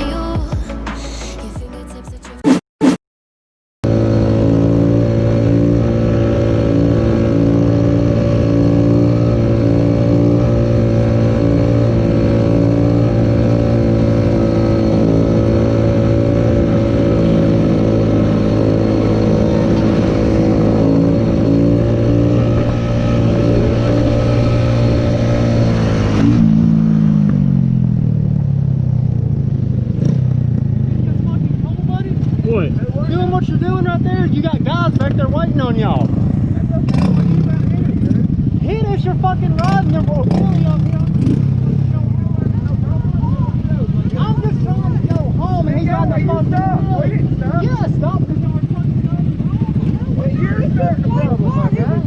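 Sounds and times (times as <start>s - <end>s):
motorcycle engine running: 3.8s - 52.0s
road and wind noise: 3.8s - 52.0s.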